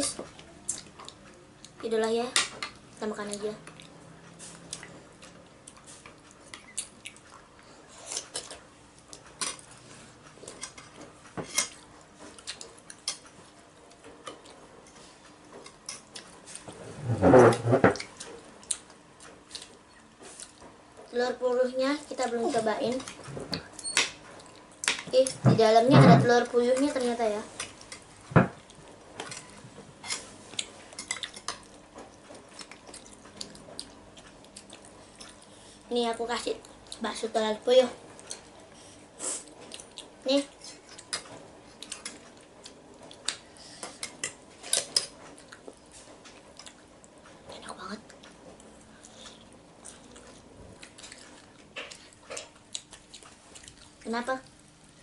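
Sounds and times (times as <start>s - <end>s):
child chewing food: 0.0s - 55.0s.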